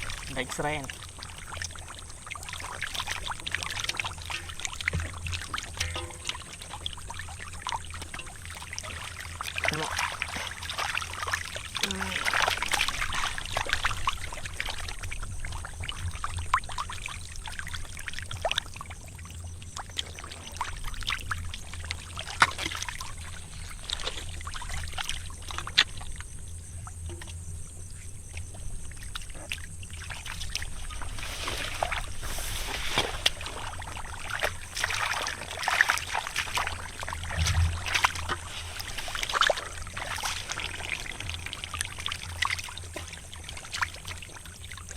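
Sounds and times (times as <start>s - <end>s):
shallow water splashing and sloshing: 0.0s - 44.9s.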